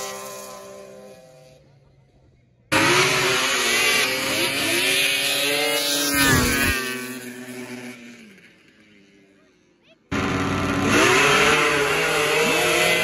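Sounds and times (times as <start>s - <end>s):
snowmobile engines racing: 0.0s - 13.0s.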